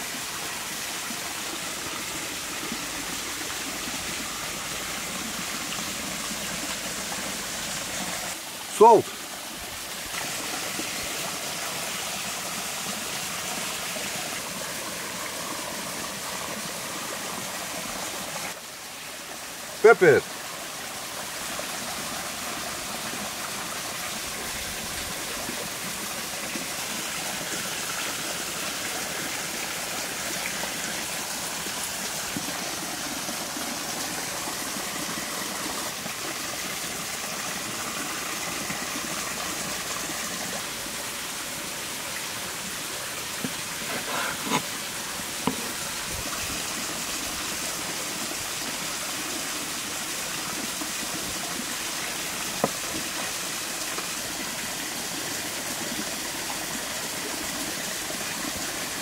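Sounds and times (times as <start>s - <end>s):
small creek rushing: 0.0s - 59.0s.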